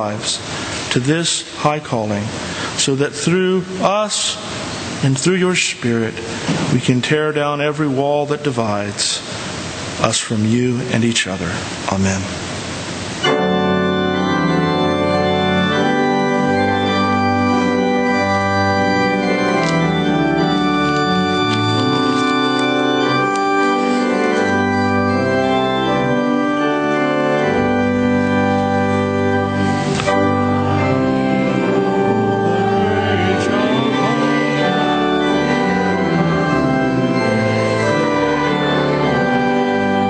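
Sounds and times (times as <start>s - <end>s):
church organ chords: 0.0s - 11.5s, 13.1s - 40.0s.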